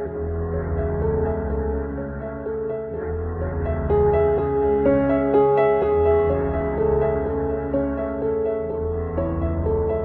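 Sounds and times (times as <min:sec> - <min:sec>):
gentle background song: 0:00.0 - 0:10.0.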